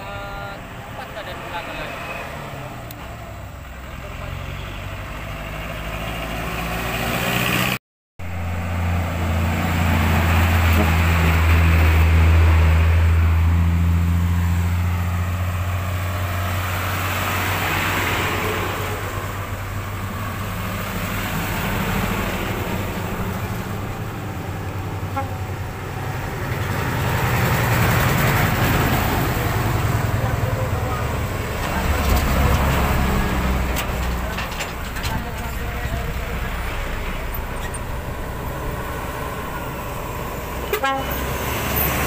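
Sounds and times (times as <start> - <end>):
truck engine hum: 0.0 - 42.0
vehicles passing: 0.0 - 42.0.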